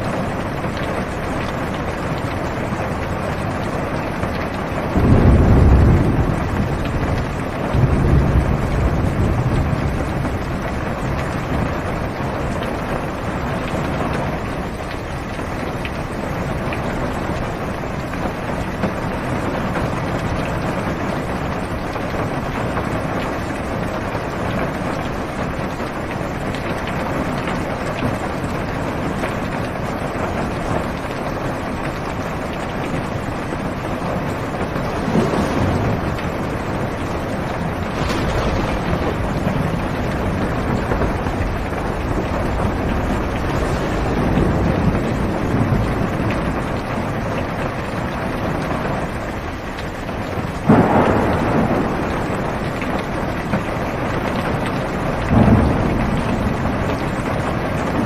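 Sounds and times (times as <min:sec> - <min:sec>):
heavy rain on car roof: 0:00.0 - 0:58.0
thunder rumbling: 0:00.0 - 0:58.0.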